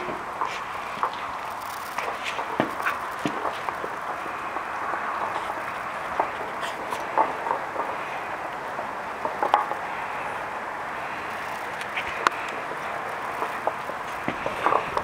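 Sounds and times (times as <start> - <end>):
puppies eating from bowl: 0.0 - 15.0
steady hiss: 0.0 - 15.0.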